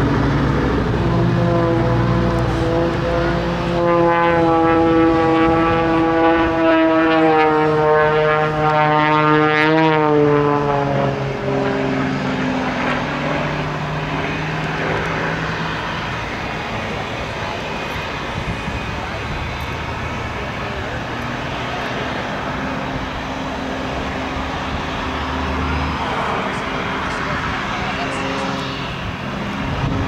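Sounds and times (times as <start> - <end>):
propeller airplane engine droning: 0.0 - 30.0.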